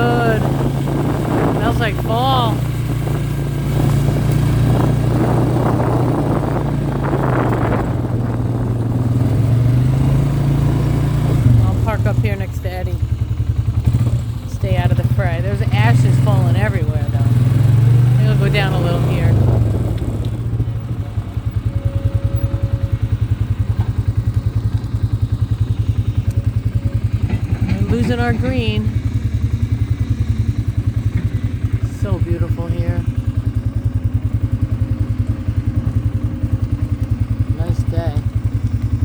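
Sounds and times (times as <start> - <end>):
quad engine droning: 0.0 - 39.0
rough rattling: 0.0 - 39.0.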